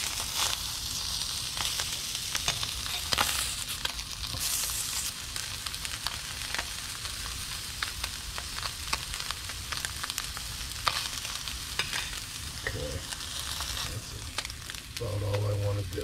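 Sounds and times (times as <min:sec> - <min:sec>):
fish sizzling in a skillet: 0:00.0 - 0:16.0.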